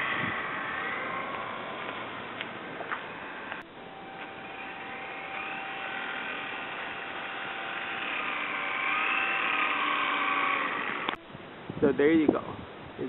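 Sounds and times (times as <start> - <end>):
toy airplane motor whine: 0.0 - 2.4, 3.0 - 11.2.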